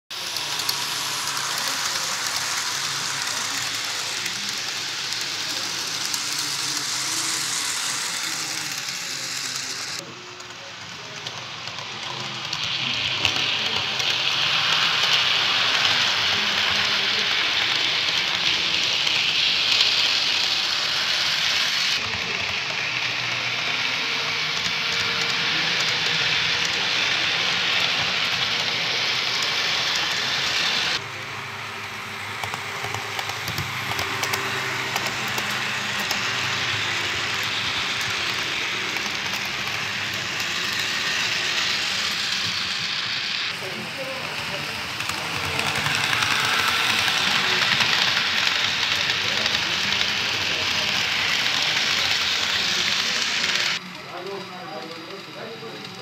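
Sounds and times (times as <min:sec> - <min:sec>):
model trains running on track: 0:00.1 - 0:56.0.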